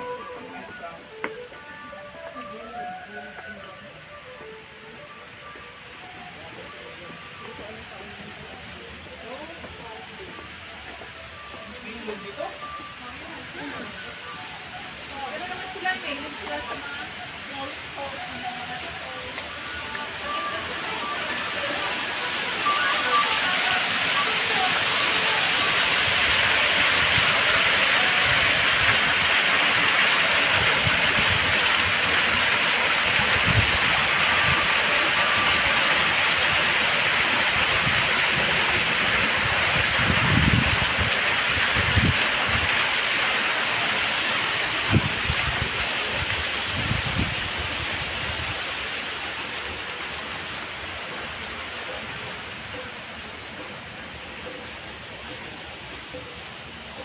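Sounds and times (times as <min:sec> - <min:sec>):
waterfall rushing into pool: 0:00.0 - 0:57.0.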